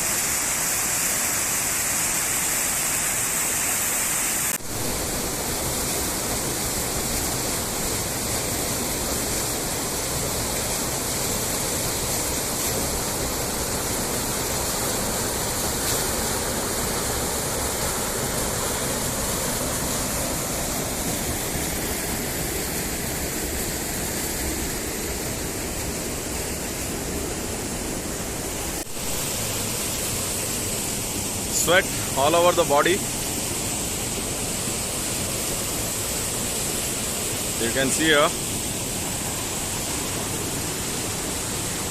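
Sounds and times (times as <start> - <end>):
waterfall pouring: 0.0 - 41.9.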